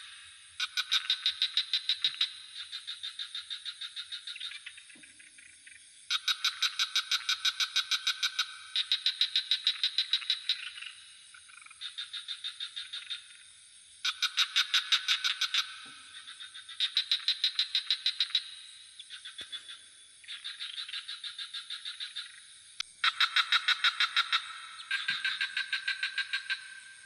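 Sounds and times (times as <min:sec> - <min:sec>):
crickets droning: 0:00.0 - 0:27.0
frogs calling in pulsed trills: 0:00.0 - 0:27.0.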